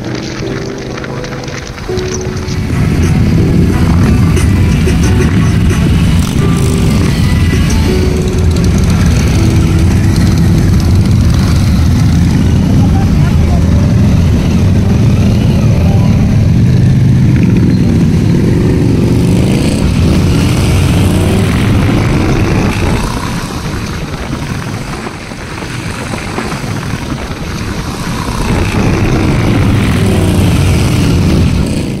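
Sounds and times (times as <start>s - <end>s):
motorcycles engine rumble passing: 0.0s - 32.0s.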